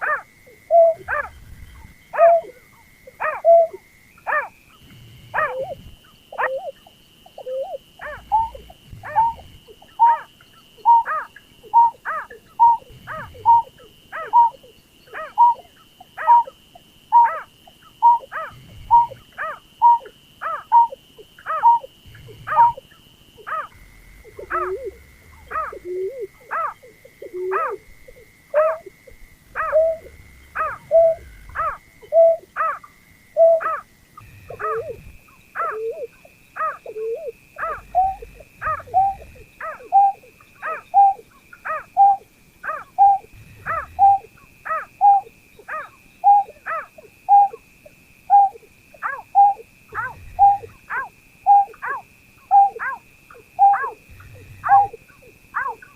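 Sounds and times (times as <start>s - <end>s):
bird calling downward notes: 0.0s - 1.3s, 2.1s - 4.6s, 5.4s - 47.6s, 48.3s - 55.0s
thin steady high tone: 0.0s - 55.9s.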